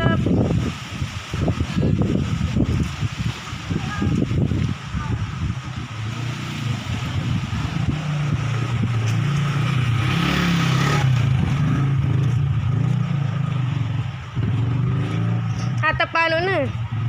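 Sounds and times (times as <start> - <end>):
gusty wind buffeting microphone: 0.0 - 17.0.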